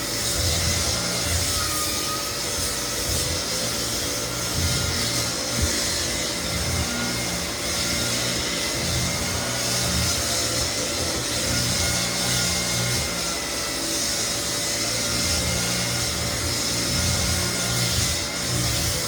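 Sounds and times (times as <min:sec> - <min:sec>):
floor sander grinding wood: 0:00.0 - 0:19.0.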